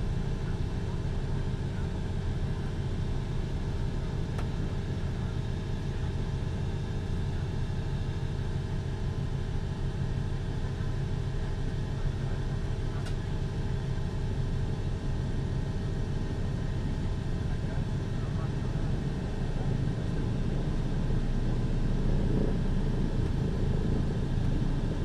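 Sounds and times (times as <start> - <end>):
propeller engines rumbling: 0.0 - 25.0.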